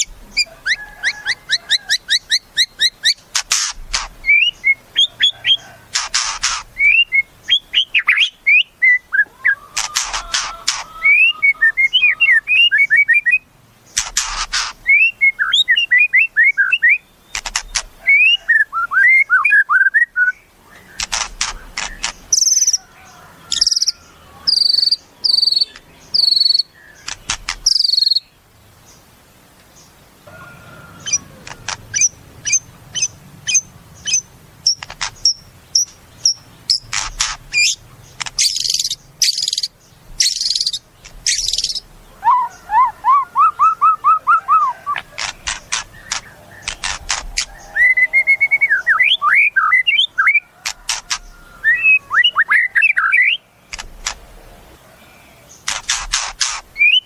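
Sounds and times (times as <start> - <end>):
songbird singing varied song: 0.0 - 57.0.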